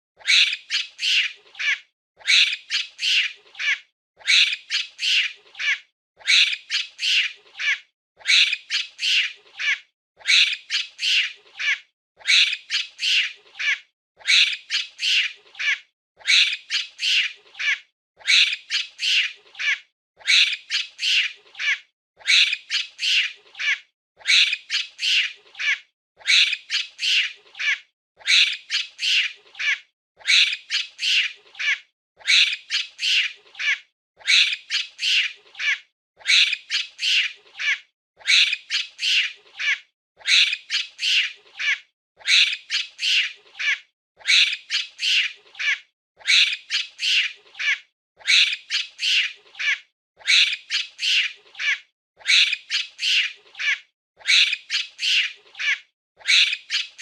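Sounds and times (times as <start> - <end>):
monkey screeching calls: 0.2 - 57.0.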